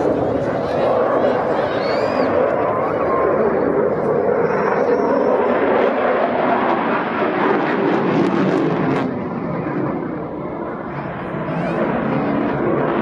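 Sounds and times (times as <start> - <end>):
fighter jet engines rushing: 0.0 - 13.0.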